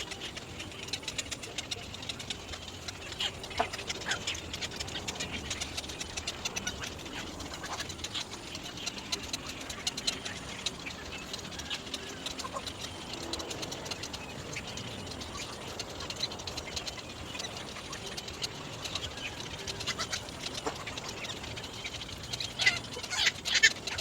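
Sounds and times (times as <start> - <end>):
high squeaky bird calls: 0.0 - 24.0.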